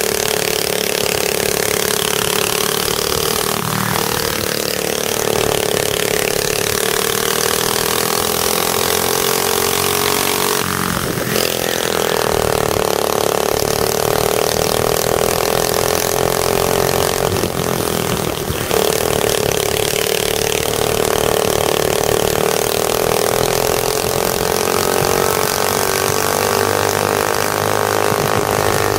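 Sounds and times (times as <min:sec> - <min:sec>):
go-kart engine running hard: 0:00.0 - 0:28.9.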